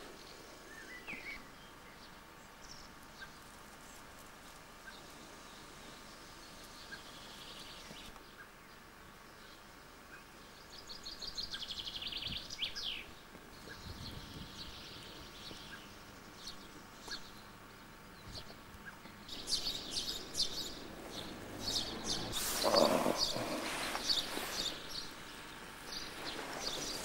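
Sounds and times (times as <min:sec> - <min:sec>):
small songbirds singing: 0:00.0 - 0:27.0.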